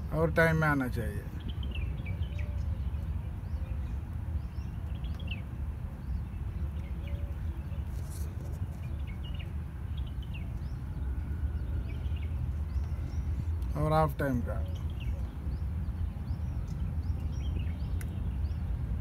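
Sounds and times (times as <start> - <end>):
low outdoor rumble: 0.0 - 19.0
small birds chirping: 0.0 - 19.0.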